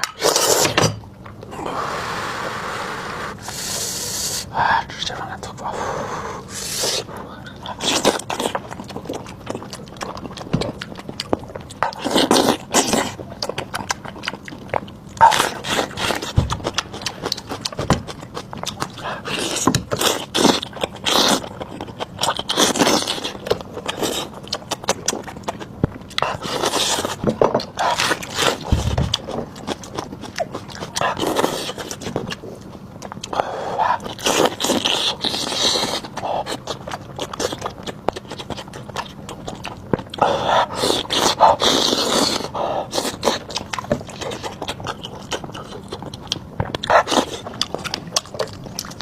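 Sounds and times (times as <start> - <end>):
chewing and biting: 6.9 - 49.0.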